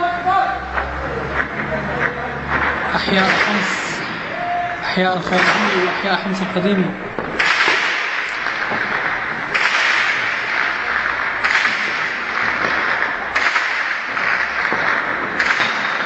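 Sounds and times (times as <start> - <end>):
shelling blasts echoing: 3.0 - 16.0.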